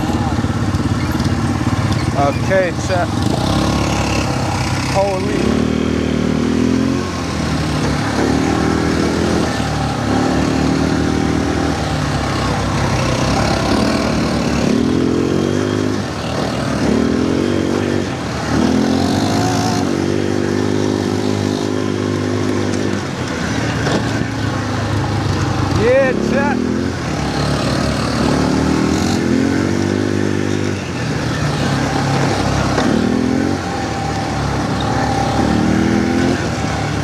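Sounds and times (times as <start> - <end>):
constant rushing noise: 0.0 - 37.0
quad bike engine revving: 0.0 - 37.0.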